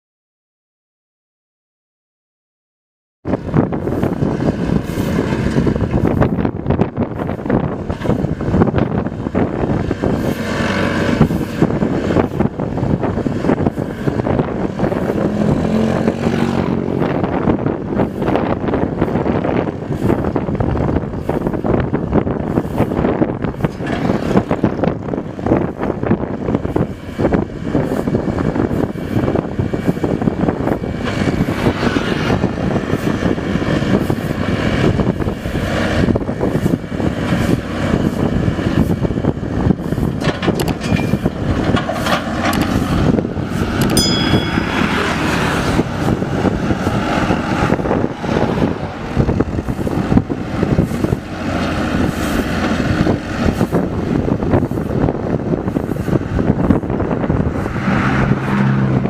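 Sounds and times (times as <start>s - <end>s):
excavator diesel engine running: 3.3s - 59.0s.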